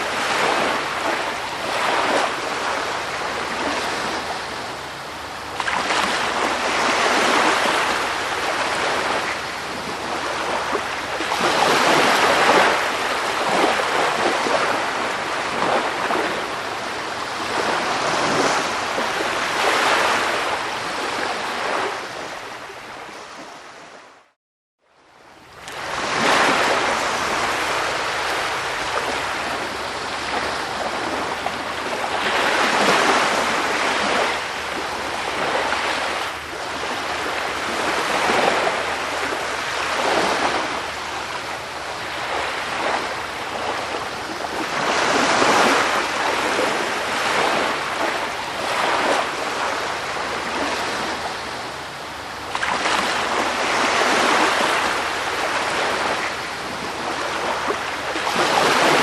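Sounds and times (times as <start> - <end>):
sea waves washing on shore: 0.0 - 24.3, 25.4 - 59.0.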